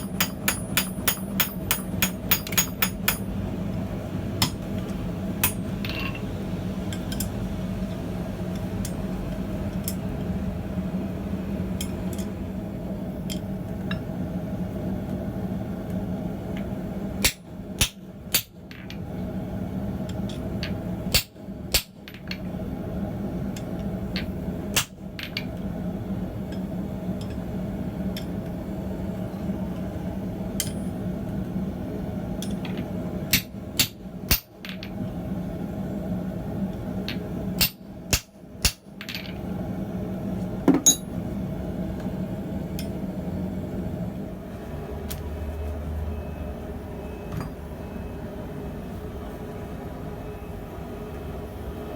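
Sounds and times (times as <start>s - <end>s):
steady hum: 0.0s - 45.6s.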